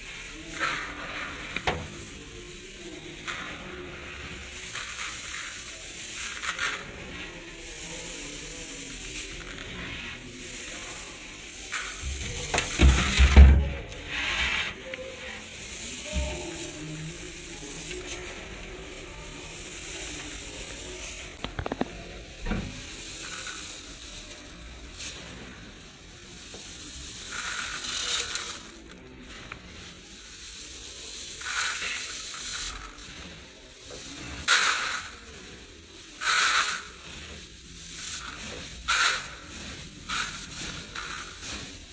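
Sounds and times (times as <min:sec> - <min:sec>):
dry rice grains rustling: 0:00.0 - 0:41.9.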